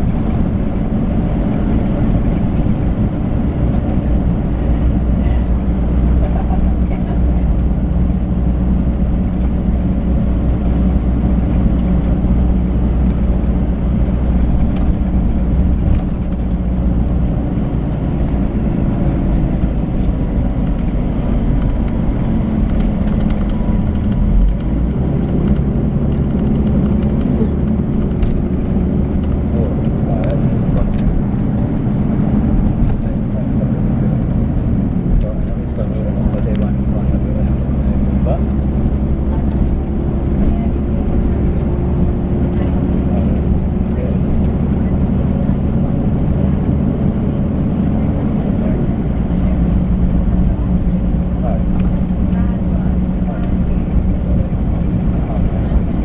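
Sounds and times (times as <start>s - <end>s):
diesel coach engine running: 0.0s - 56.0s.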